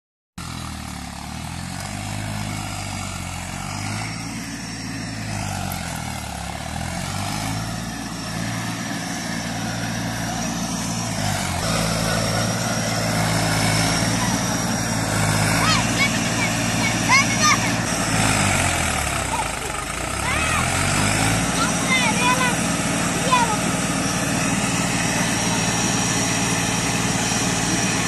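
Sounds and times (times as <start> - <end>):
tractor engine running hard: 0.4 - 28.0.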